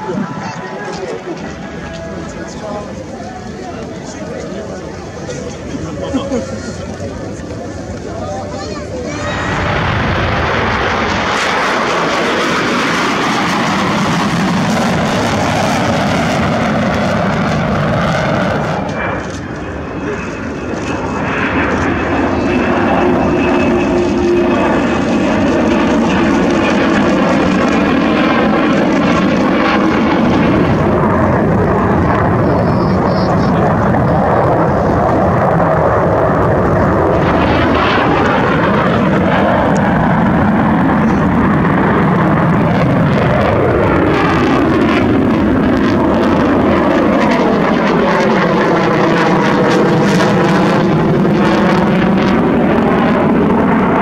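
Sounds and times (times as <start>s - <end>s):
jet engine noise: 0.0s - 54.0s.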